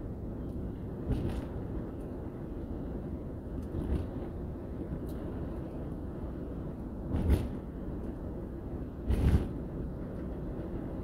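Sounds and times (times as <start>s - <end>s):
road and engine rumble in cab: 0.0s - 11.0s.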